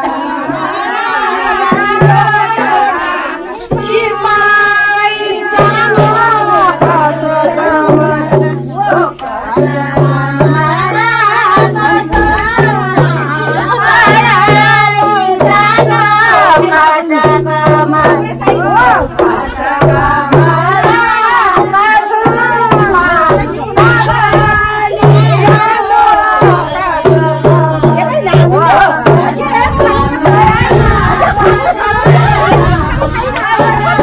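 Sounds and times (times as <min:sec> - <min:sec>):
folk singing: 0:00.0 - 0:34.0
hand drum beat: 0:00.0 - 0:34.0.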